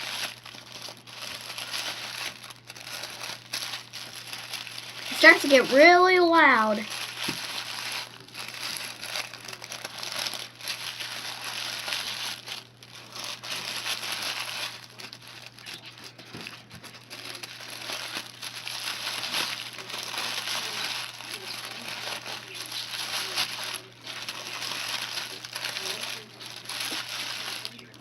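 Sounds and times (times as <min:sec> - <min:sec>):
tablecloth crinkling: 0:00.0 - 0:28.0.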